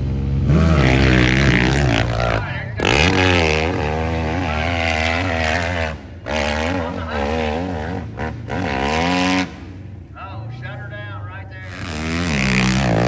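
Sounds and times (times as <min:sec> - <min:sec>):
motorcycle engine revving hard: 0:00.0 - 0:09.8, 0:11.7 - 0:13.0.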